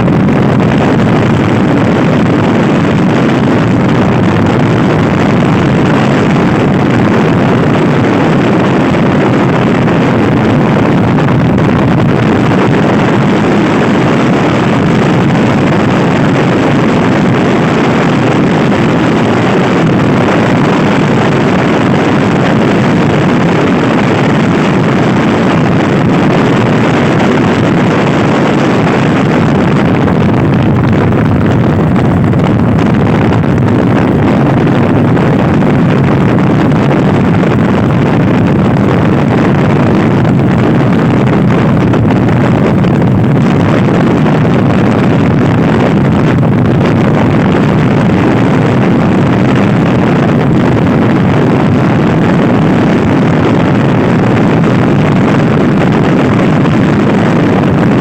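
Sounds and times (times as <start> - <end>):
wind on microphone: 0.0 - 58.0.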